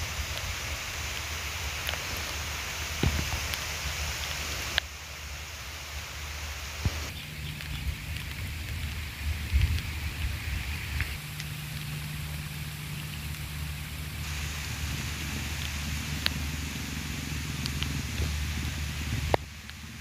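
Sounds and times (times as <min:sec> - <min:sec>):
low steady hum: 0:00.0 - 0:20.0
rain falling: 0:00.0 - 0:20.0.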